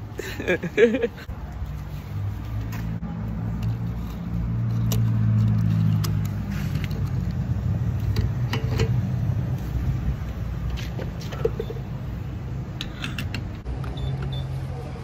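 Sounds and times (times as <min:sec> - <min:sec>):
road noise: 0:00.0 - 0:15.0
car engine hum: 0:02.2 - 0:15.0.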